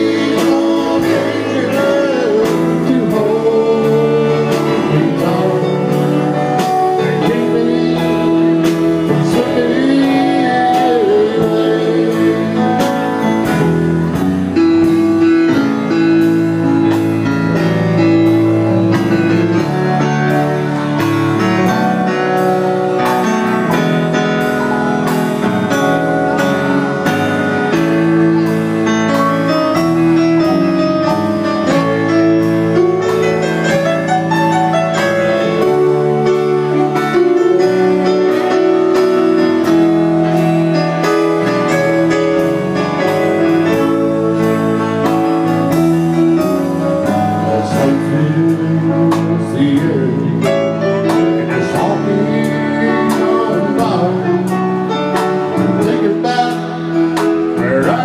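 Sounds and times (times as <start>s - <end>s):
man singing: 0.0s - 17.0s, 18.0s - 58.0s
held keyboard notes: 0.0s - 58.0s
live rock band playing: 0.0s - 58.0s.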